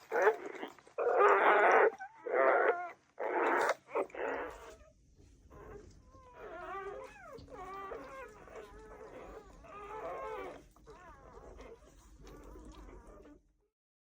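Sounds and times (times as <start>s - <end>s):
dog whimpering and whining: 0.0s - 4.9s, 5.5s - 13.4s.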